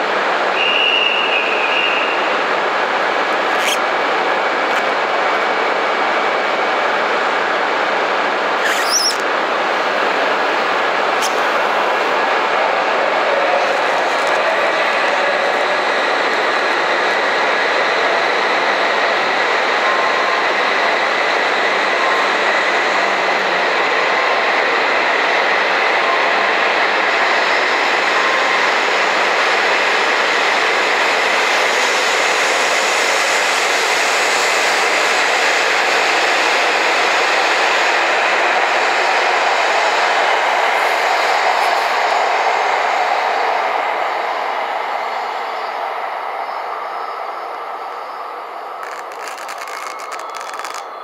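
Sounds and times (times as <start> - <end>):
high-speed train running noise: 0.0 - 51.0.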